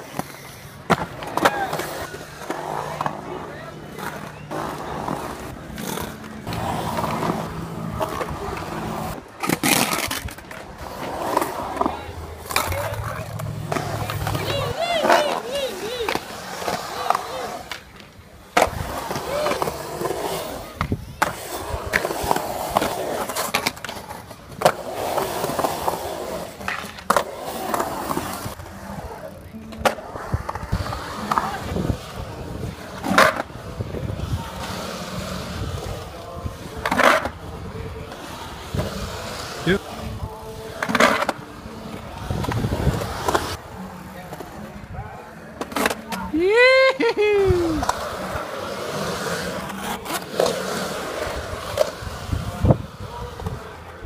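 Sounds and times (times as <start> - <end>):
skateboard clacks: 0.0 - 43.6
skateboard wheels rolling on concrete: 0.0 - 54.0.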